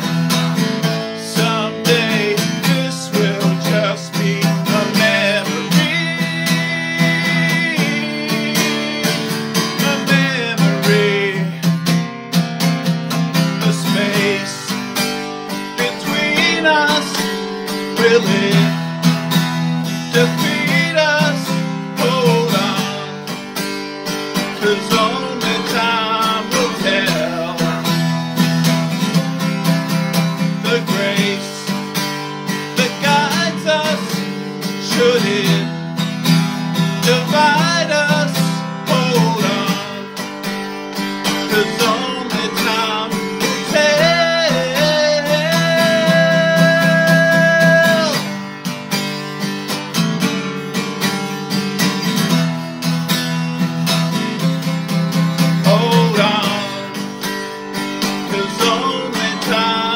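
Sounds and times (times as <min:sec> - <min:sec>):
strummed acoustic guitar: 0:00.0 - 0:59.9
man singing: 0:00.8 - 0:11.9, 0:13.1 - 0:23.6, 0:24.3 - 0:29.2, 0:30.1 - 0:48.5, 0:54.1 - 0:57.4, 0:58.0 - 0:59.9.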